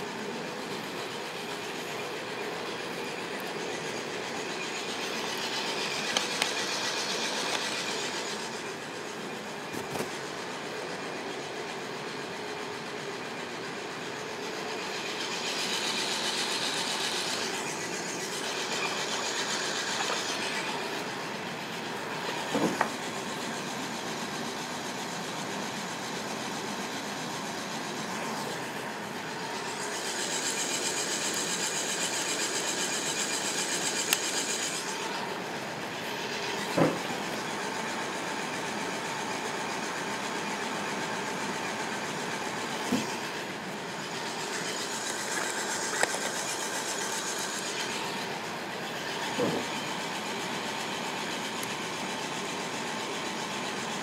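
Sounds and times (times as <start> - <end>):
coffee roaster drum whirring: 0.0 - 54.0
hiss: 0.0 - 54.0.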